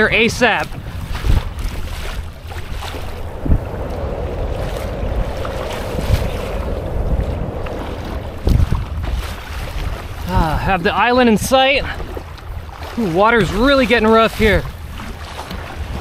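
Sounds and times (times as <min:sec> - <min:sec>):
choppy water splashing: 0:00.0 - 0:16.0
wind on microphone: 0:00.0 - 0:16.0.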